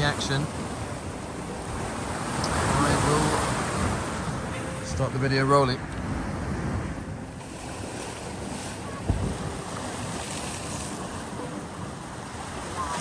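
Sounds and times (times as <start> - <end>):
waves washing on rocky shore: 0.0 - 13.0
wind buffeting microphone: 0.5 - 13.0.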